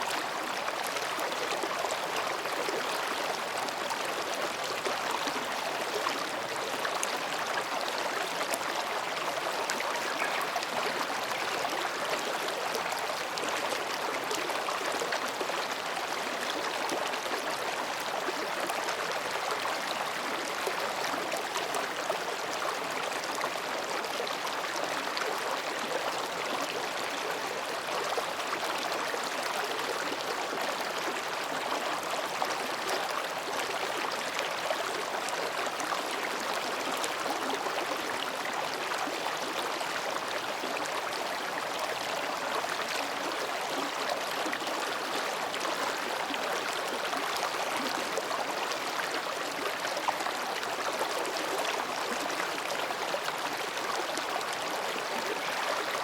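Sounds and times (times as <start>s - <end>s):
stream babbling over rocks: 0.0s - 56.0s.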